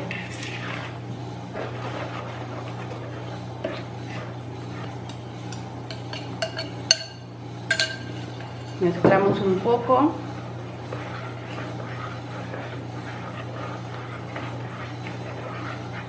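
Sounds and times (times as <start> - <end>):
steady low hum: 0.0 - 16.0
utensil scraping a bowl: 0.0 - 16.0.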